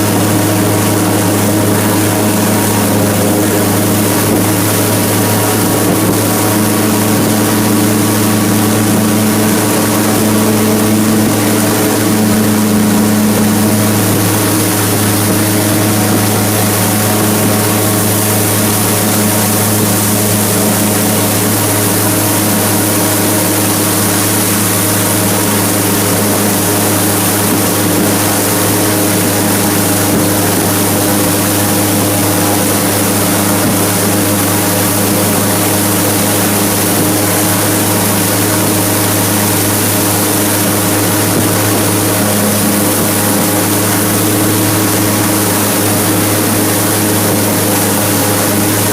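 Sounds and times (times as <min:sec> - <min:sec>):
airboat engine and propeller: 0:00.0 - 0:48.9.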